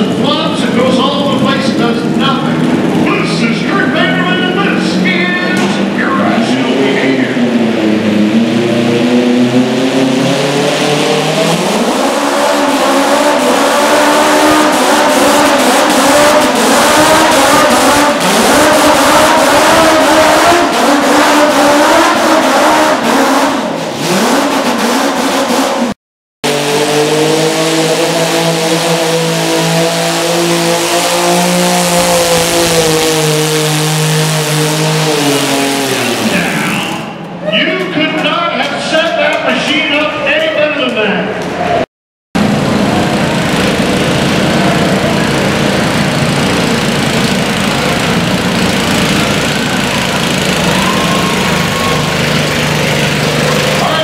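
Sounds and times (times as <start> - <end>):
lawn tractor engine running hard: 0.0 - 23.4, 26.4 - 37.0, 42.4 - 54.0.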